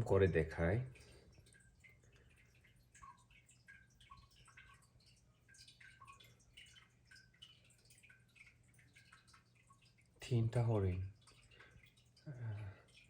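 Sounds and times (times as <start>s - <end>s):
faint drip-like ticks: 0.0s - 13.0s.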